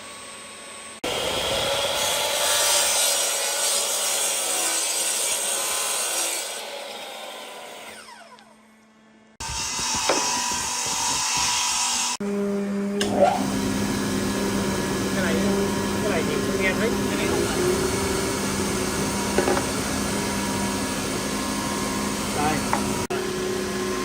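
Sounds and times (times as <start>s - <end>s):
power saw cutting wood: 1.0s - 24.0s.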